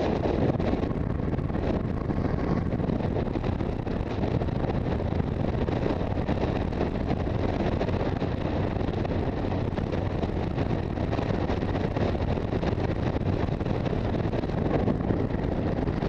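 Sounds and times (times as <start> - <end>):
motorcycle engine: 0.0 - 16.0
road noise: 0.0 - 16.0
wind rushing over microphone: 0.0 - 16.0.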